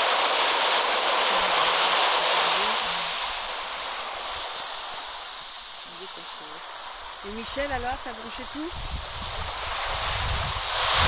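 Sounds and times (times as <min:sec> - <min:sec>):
recorded surf waves: 0:00.0 - 0:11.0.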